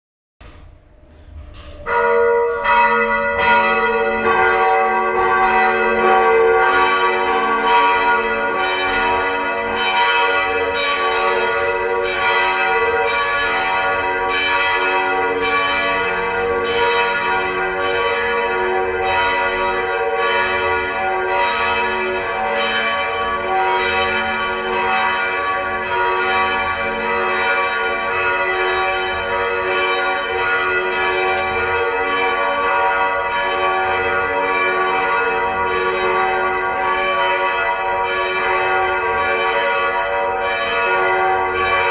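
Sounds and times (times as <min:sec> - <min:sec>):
church bells pealing: 0:01.3 - 0:41.9.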